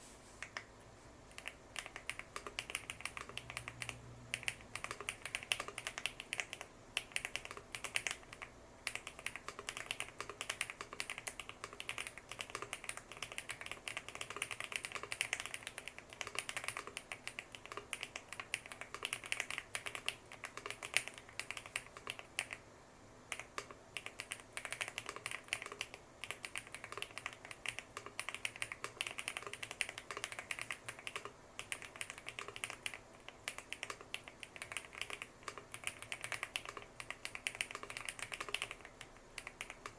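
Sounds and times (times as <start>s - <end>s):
fast mechanical keyboard typing: 1.3s - 22.6s, 23.3s - 39.9s.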